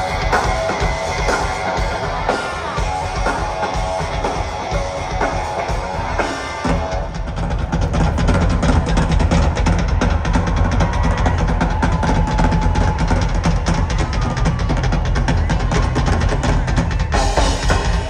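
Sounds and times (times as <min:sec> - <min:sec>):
drum kit and percussion: 0:00.0 - 0:18.0
live rock band playing: 0:00.0 - 0:18.0.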